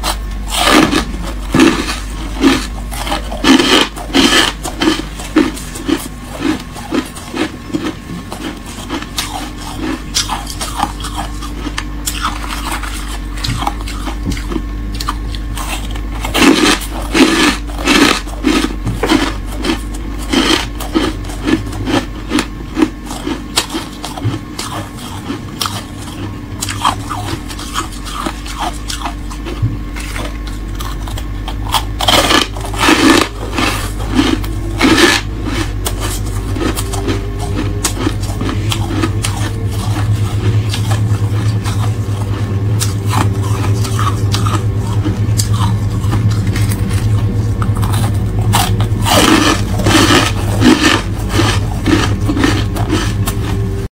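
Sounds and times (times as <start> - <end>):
frost crunching in mouth: 0.0 - 53.8.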